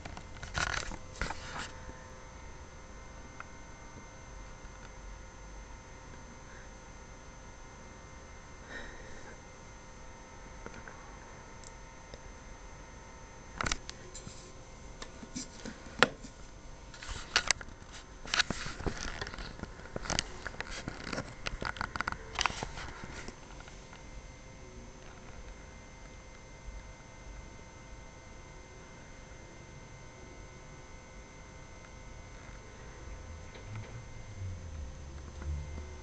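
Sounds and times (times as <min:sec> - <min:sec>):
faint electrical hum: 0:00.0 - 0:36.0.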